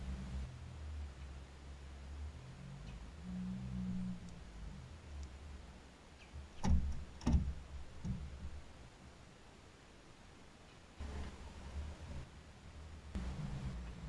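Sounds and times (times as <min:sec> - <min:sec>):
low rumble: 0:00.0 - 0:08.9, 0:11.0 - 0:14.0.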